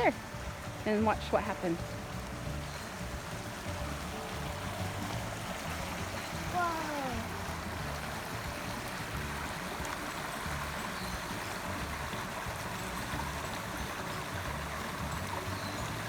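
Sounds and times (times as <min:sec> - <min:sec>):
stream babbling: 0:00.0 - 0:16.0.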